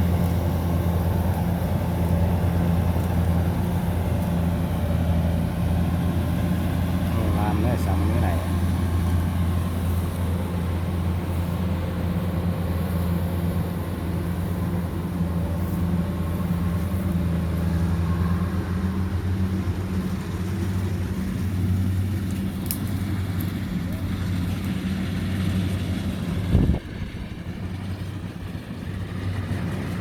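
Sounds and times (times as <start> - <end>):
combine harvester engine drone: 0.0 - 30.0
threshing machinery hum: 0.0 - 30.0.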